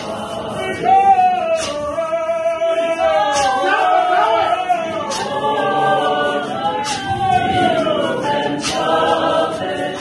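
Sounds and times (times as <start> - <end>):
church choir singing a cappella: 0.0 - 10.0.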